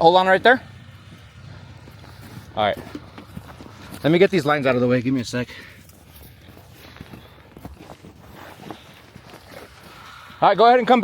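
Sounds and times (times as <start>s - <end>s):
footsteps in snow: 1.0s - 11.0s.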